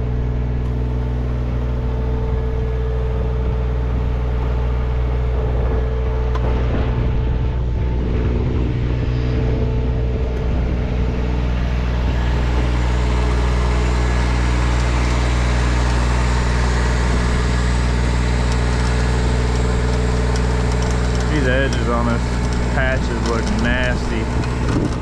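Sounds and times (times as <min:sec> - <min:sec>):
machine engine running: 0:00.0 - 0:25.0.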